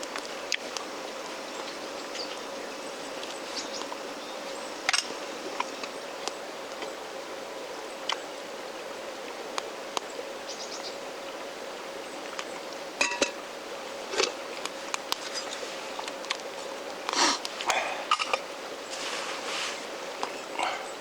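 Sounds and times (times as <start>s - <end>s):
campfire crackling: 0.0s - 10.4s, 11.0s - 21.0s.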